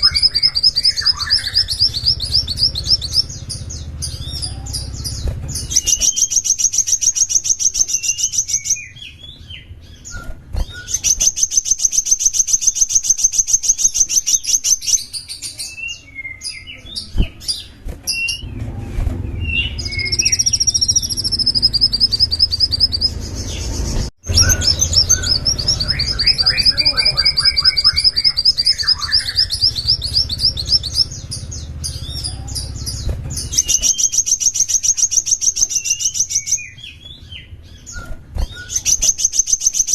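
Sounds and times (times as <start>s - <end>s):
bird song trills and chirps: 0.0s - 39.9s.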